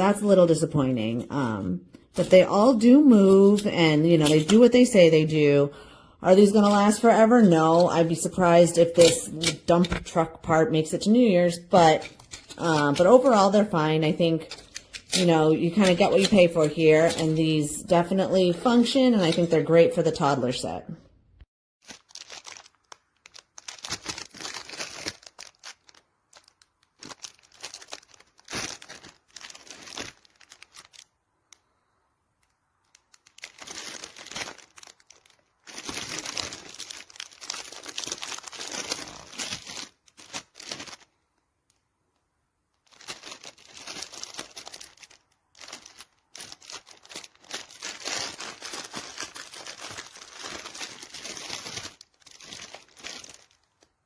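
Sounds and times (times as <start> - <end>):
crinkly wrapping rustling: 0.0 - 20.6, 21.8 - 41.8, 42.7 - 54.0.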